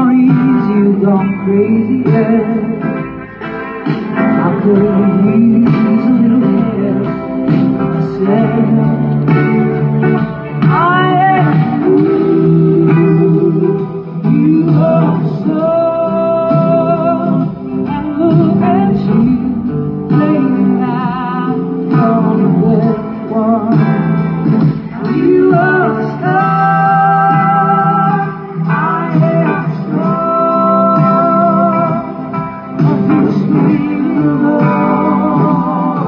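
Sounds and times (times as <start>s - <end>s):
bending electric guitar line: 0.0s - 36.0s
blues-rock band playing live: 0.0s - 36.0s.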